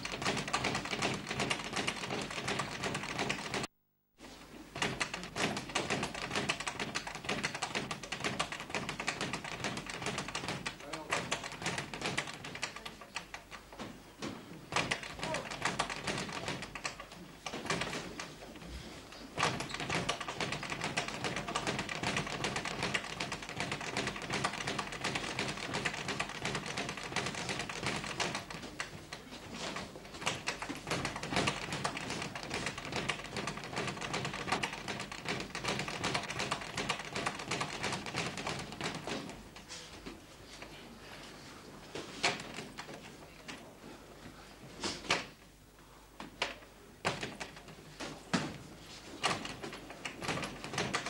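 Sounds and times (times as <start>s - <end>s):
rapid boxing taps: 0.0s - 3.8s, 4.7s - 18.6s, 19.3s - 40.2s, 46.2s - 51.0s.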